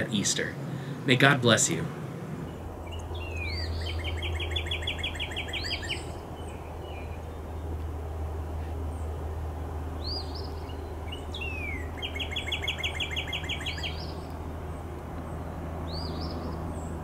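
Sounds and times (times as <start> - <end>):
low wind rumble: 0.0 - 17.0
songbirds whistling: 2.4 - 17.0
bird trill: 2.5 - 17.0.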